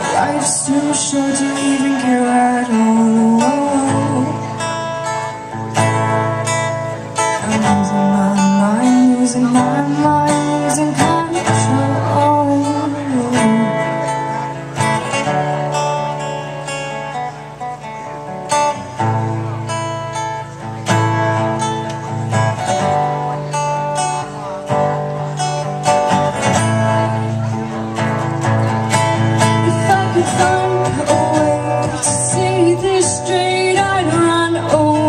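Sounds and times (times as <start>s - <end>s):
guitar chords strummed: 0.0s - 35.0s.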